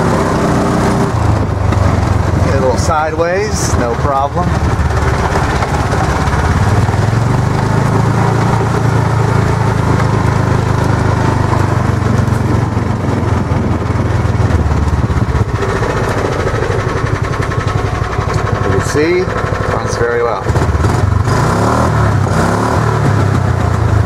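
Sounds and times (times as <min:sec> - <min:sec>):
single-cylinder engine running: 0:00.0 - 0:24.0.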